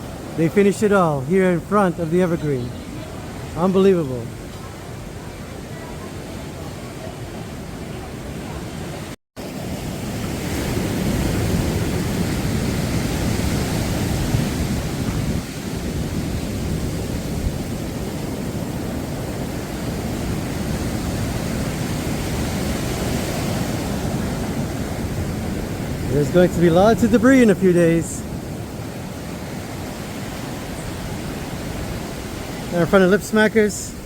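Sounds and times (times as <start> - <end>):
surf breaking on beach: 0.0 - 34.0
wind buffeting microphone: 4.4 - 32.8.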